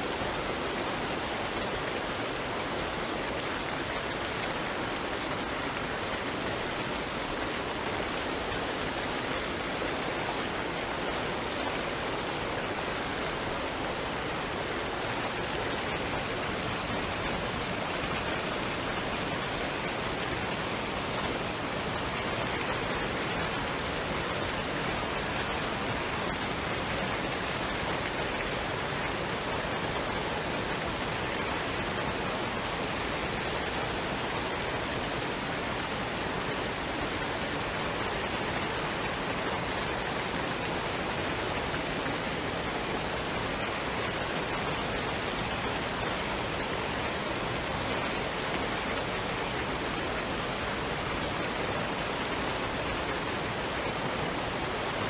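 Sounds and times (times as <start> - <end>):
waterfall and stream rushing: 0.0 - 55.0.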